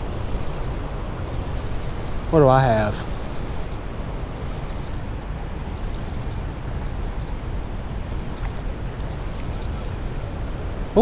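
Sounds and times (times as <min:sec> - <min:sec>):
fishing reel clicking: 0:00.0 - 0:10.0
fast river current rushing: 0:00.0 - 0:11.0.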